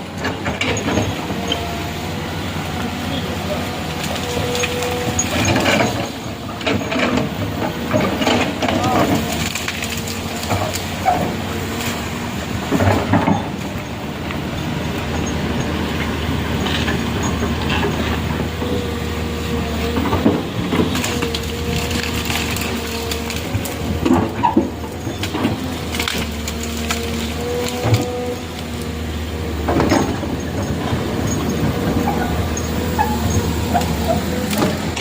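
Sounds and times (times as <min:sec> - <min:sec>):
large engine running with whine: 0:00.0 - 0:35.0.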